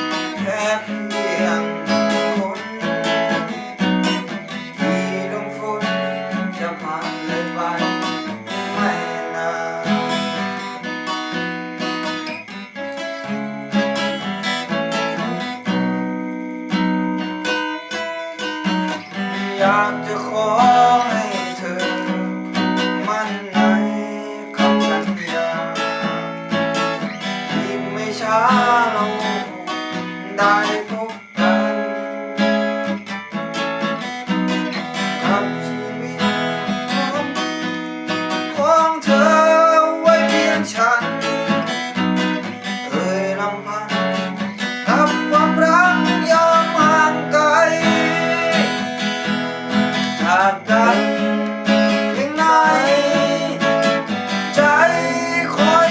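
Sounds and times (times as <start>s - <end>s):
acoustic guitar strummed and picked: 0.0s - 55.9s.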